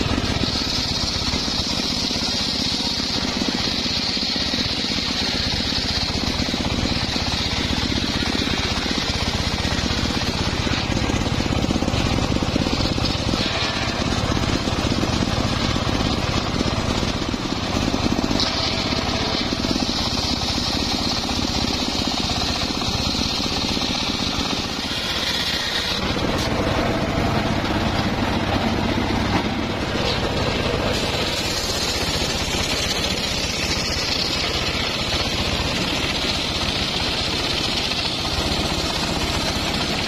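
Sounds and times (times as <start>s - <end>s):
circular saw cutting wood: 0.0s - 40.0s
high saw whine: 0.0s - 40.0s.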